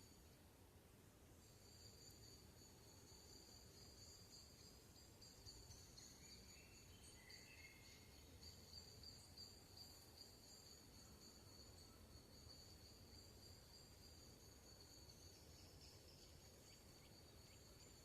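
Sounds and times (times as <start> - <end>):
insects trilling: 1.3 - 18.0.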